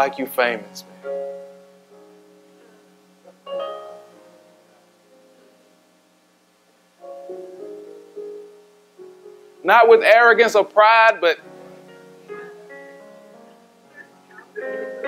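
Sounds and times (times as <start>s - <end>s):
soft keyboard chords: 0.0s - 15.0s.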